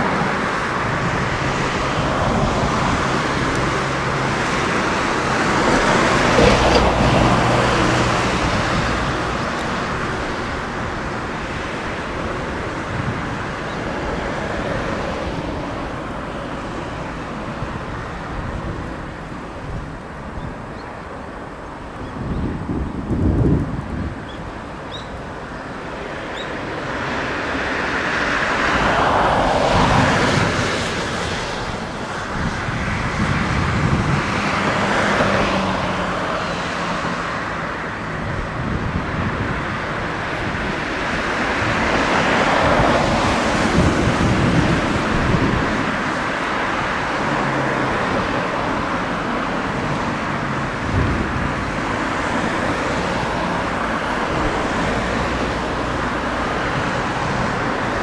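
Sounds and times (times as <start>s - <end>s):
jet engines rushing: 0.0s - 22.0s, 24.6s - 58.0s
wind buffeting microphone: 0.0s - 58.0s.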